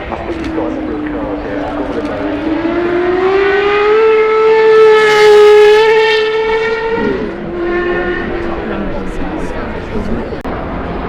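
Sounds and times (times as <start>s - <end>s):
car engine revving high: 0.2s - 11.0s.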